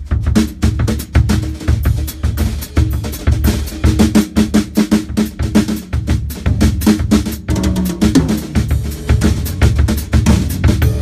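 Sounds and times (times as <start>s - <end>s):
drum kit fast groove: 0.0s - 11.0s.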